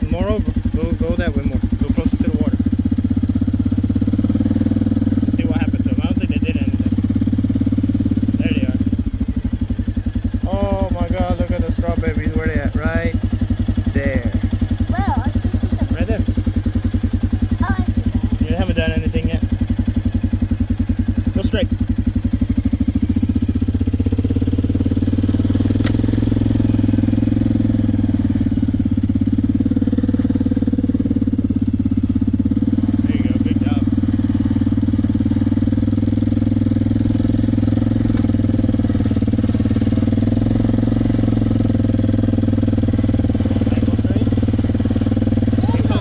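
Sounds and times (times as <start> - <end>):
atv engine running: 0.0 - 46.0.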